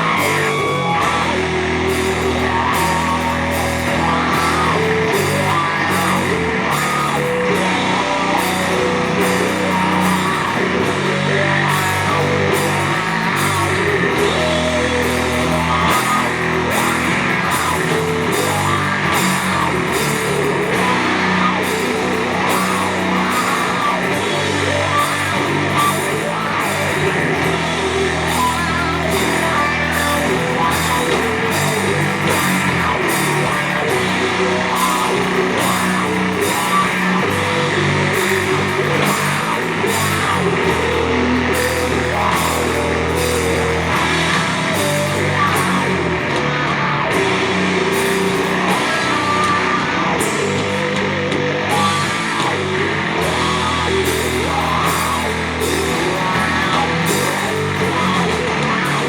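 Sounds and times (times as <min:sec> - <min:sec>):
doom metal band playing: 0:00.0 - 0:59.0.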